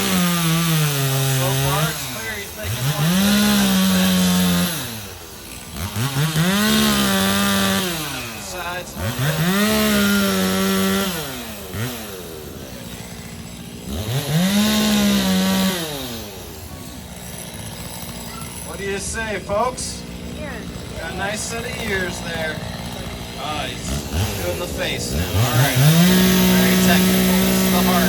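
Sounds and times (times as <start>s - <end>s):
chainsaw cutting log: 0.0s - 28.0s.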